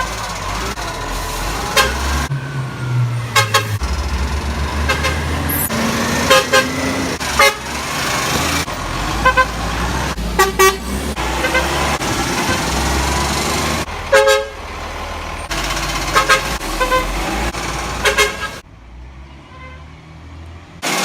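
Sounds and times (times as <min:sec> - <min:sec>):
truck horns honking: 0:00.0 - 0:18.6, 0:19.2 - 0:20.0
low engine rumble: 0:00.0 - 0:18.8.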